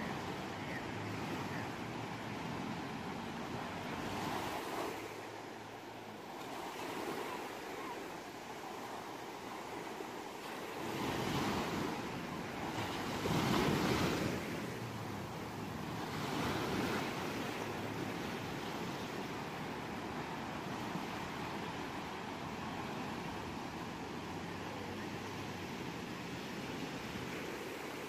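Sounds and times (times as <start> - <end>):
ocean waves breaking on shore: 0.0 - 28.0.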